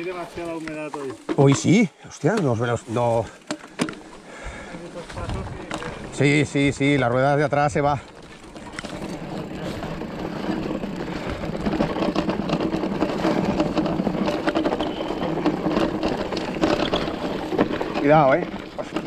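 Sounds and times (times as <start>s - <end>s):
bike knocking and rattling: 0.0s - 19.0s
mountain bike rolling on dirt: 0.0s - 19.0s.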